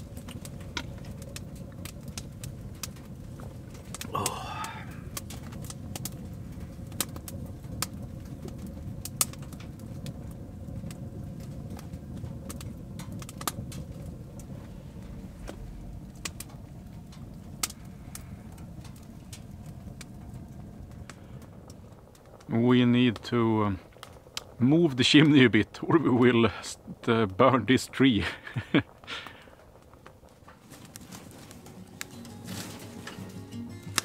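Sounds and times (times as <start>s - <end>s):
burning wood crackling and popping: 0.0s - 34.0s
wood stove fire rumbling: 0.0s - 34.0s.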